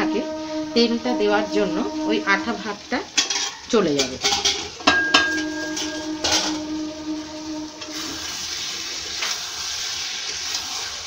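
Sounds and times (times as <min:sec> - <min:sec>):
food frying with sizzling hiss: 0:00.0 - 0:11.0.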